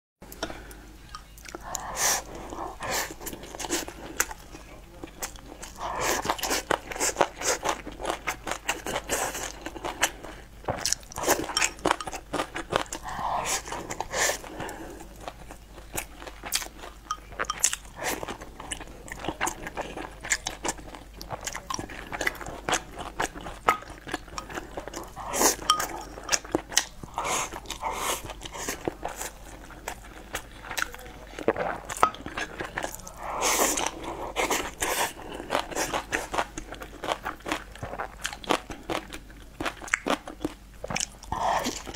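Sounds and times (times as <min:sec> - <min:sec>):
close chewing: 0:00.3 - 0:41.9.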